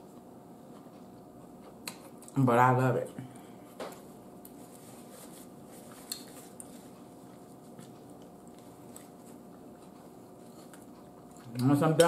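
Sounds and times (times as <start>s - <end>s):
faint steady hum: 0.0s - 12.0s
eating and table sounds: 0.1s - 2.5s, 3.2s - 12.0s.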